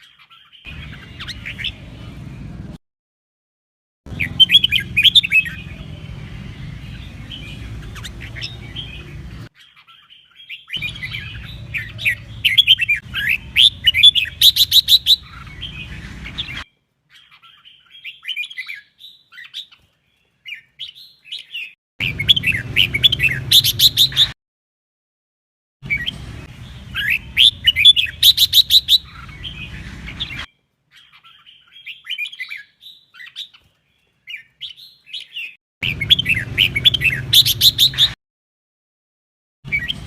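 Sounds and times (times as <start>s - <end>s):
bird singing chirpy warbles: 0.0s - 2.5s, 4.1s - 24.4s, 25.8s - 38.2s, 39.7s - 40.0s.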